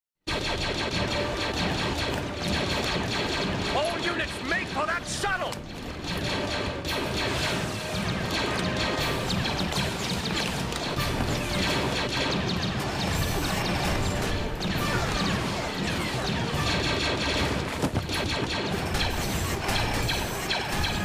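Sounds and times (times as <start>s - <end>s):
battle music: 0.3s - 21.0s
rapid blaster fire: 0.3s - 21.0s.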